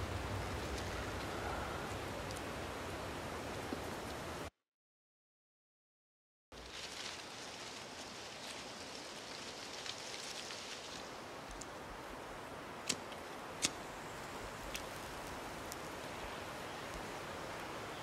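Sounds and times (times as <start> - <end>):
woodland ambience hiss: 0.0 - 4.5, 6.6 - 18.0.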